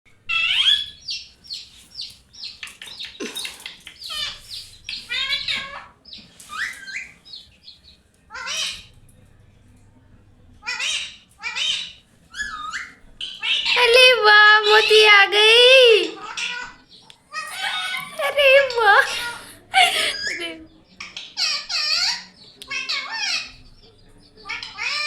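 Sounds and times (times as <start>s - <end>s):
parrot chirping and squawking: 0.3s - 7.2s, 8.3s - 8.9s, 10.6s - 23.6s, 24.4s - 25.0s.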